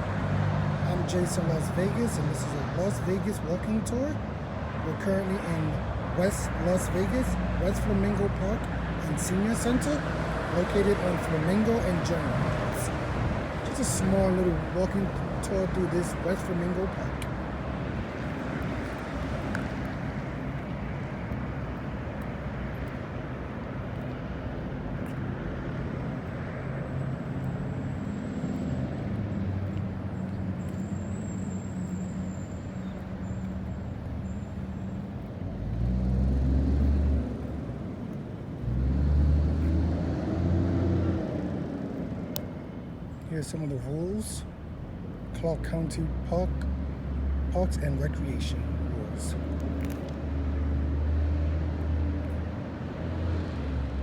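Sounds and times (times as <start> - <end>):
deep vehicle rumbles: 0.0 - 54.0
road traffic: 0.0 - 54.0.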